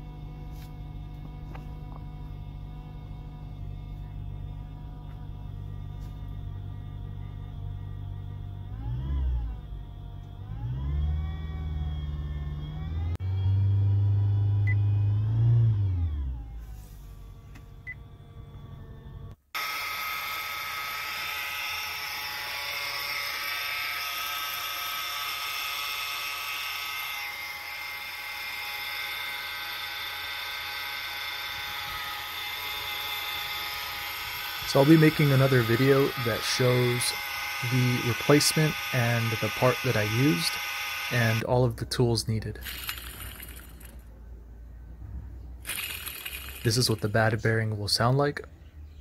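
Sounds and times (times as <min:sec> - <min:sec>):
high pulley whine: 0:00.0 - 0:44.1, 0:45.6 - 0:48.0
car engine running: 0:00.0 - 0:47.6.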